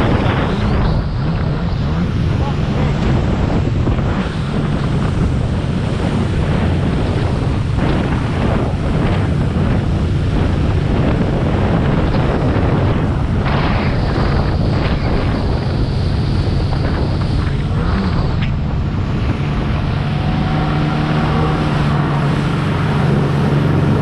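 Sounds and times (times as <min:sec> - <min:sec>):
jet ski engine running: 0:00.0 - 0:24.0
water rushing past hull: 0:00.0 - 0:24.0
wind buffeting microphone: 0:00.0 - 0:24.0.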